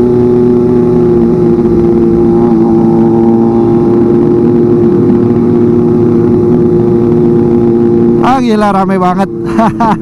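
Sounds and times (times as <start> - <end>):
motorcycle engine at high revs: 0.0 - 10.0.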